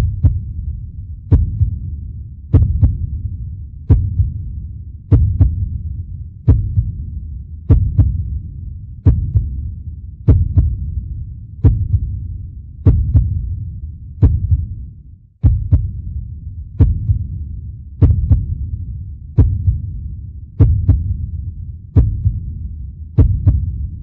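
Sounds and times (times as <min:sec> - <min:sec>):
heartbeat thumps: 0:00.0 - 0:24.0
low rumble: 0:00.0 - 0:24.0.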